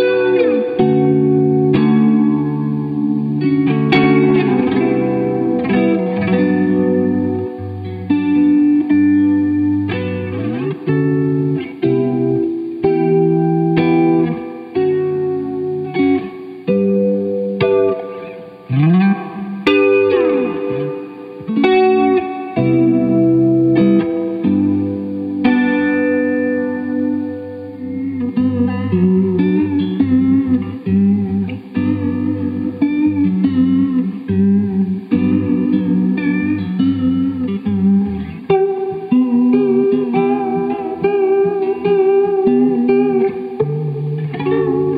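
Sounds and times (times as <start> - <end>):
electric guitar clean chords: 0.0 - 44.9.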